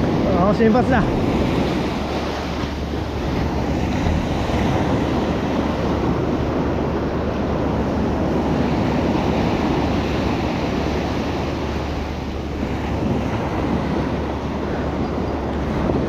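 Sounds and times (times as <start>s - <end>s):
surf washing onto sandy beach: 0.0s - 16.0s
wind buffeting microphone: 0.0s - 16.0s.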